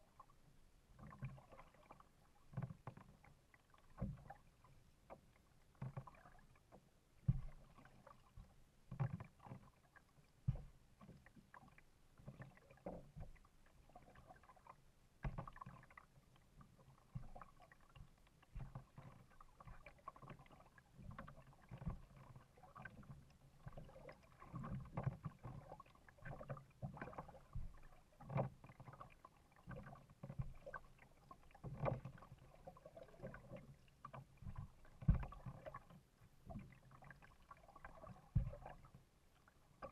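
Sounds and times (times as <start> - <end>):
paddle splashing in water: 0.0 - 39.9.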